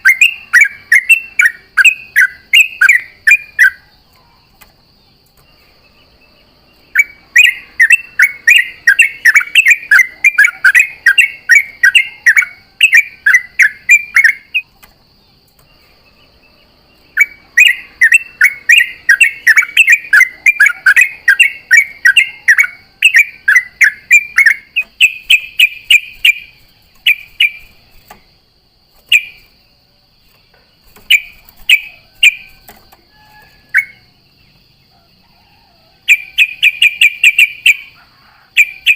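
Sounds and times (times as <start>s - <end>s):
bulbul chattering song: 0.0s - 38.9s
faint high whine: 0.0s - 38.9s.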